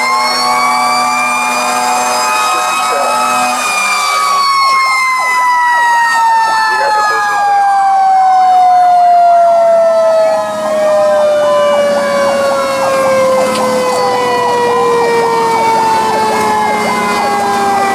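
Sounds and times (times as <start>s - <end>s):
electronic siren yelp: 0.0s - 17.9s
mechanical siren winding down: 0.0s - 17.9s.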